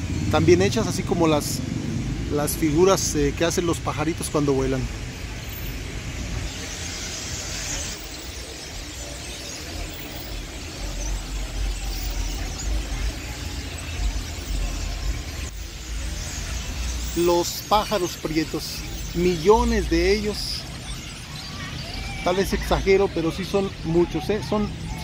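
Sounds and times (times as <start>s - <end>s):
flock of birds chattering: 0.0s - 25.0s.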